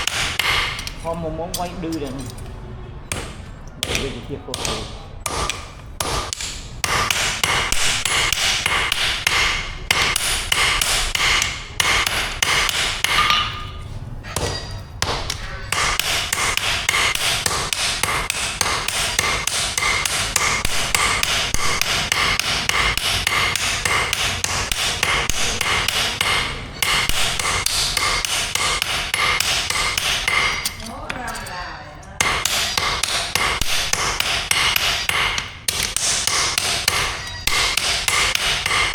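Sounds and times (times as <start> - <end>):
hammer striking steel on anvil: 0.0 - 2.4, 3.1 - 31.4, 32.2 - 38.9.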